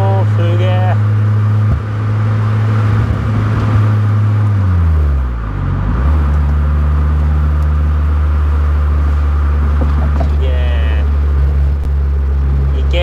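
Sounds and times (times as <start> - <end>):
car engine from inside cabin: 0.0 - 13.0
road noise: 0.0 - 13.0.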